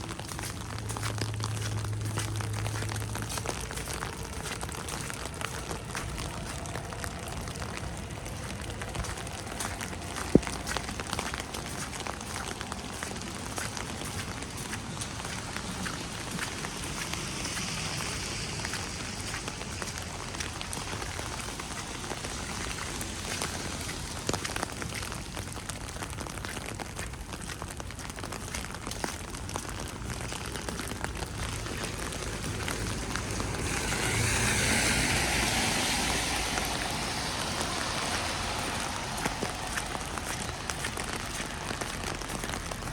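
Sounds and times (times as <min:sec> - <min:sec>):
wet snow pattering: 0:00.0 - 0:42.9.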